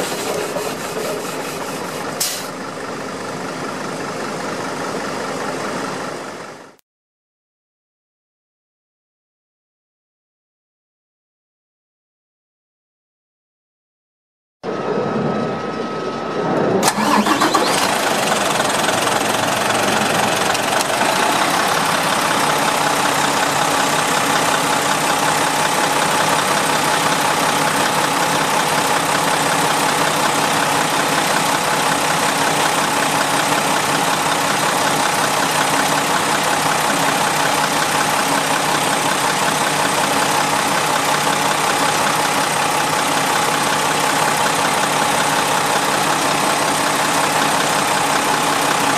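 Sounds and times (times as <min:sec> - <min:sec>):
diesel engine starting and idling: 0:00.0 - 0:06.8, 0:14.7 - 0:48.9.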